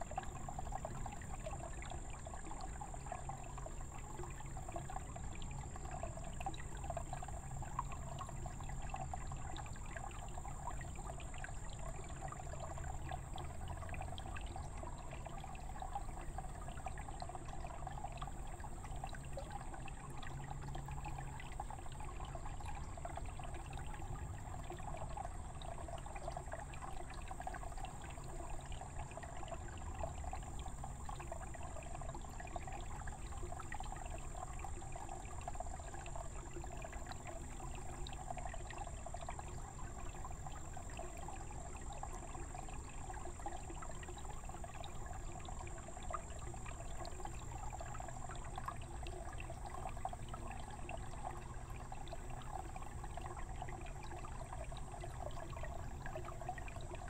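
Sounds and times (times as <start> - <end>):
water pouring from a spout: 0.0 - 57.0.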